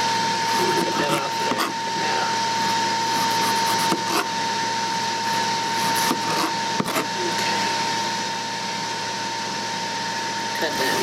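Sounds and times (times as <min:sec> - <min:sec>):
grill fan humming with whine: 0:00.0 - 0:11.0.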